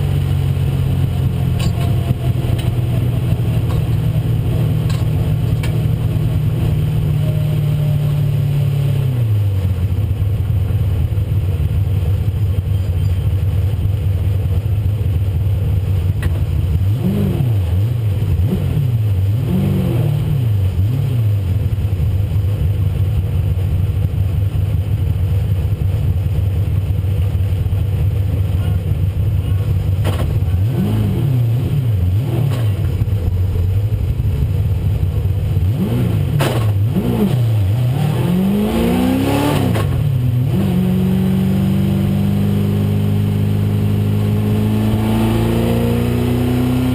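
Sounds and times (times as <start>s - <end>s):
race car engine running hard: 0.0s - 46.9s.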